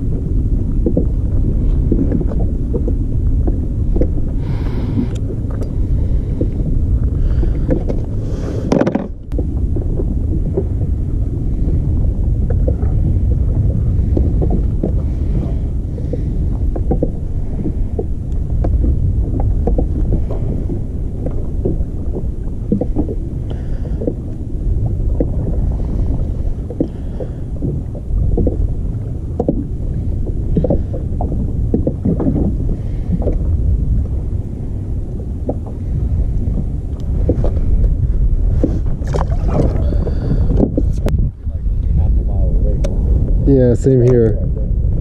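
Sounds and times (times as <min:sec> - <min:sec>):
water lapping against kayak hull: 0:00.0 - 0:45.0
wind rumbling on microphone: 0:00.0 - 0:45.0.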